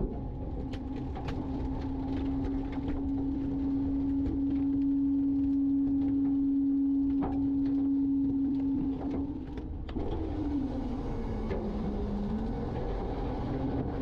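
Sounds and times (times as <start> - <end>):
garbage truck packer whining: 0.0 - 14.0.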